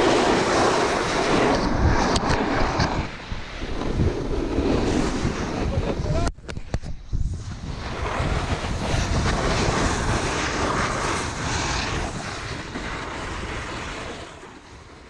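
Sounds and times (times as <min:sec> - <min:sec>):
boards hissing over snow: 0:00.0 - 0:15.0
wind buffeting microphone: 0:00.0 - 0:15.0.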